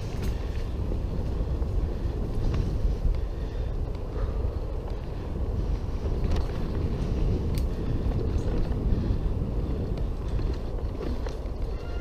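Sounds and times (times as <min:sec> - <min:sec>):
bike rattling over bumps: 0:00.0 - 0:12.0
tyres on dirt: 0:00.0 - 0:12.0
wind on microphone: 0:00.0 - 0:12.0.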